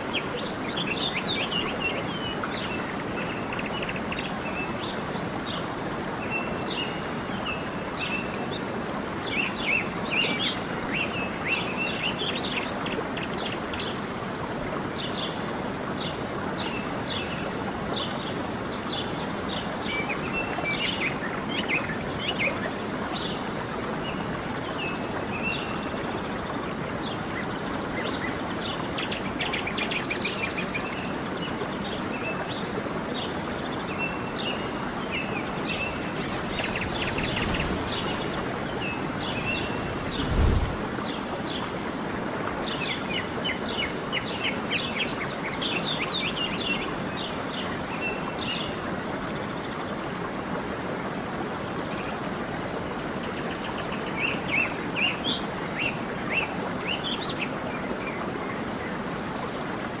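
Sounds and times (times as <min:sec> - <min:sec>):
stream rushing water: 0:00.0 - 1:00.0.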